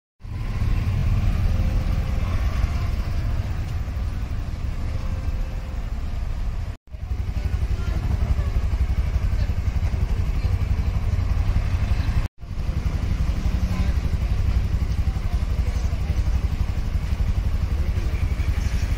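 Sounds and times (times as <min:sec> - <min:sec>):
street traffic rumble: 0:00.2 - 0:18.9.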